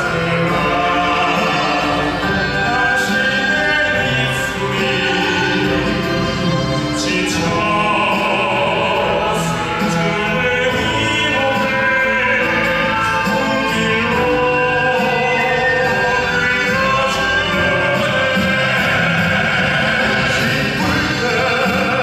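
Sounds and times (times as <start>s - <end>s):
male vocal quartet singing: 0.0s - 22.0s
traditional orchestra: 0.0s - 22.0s.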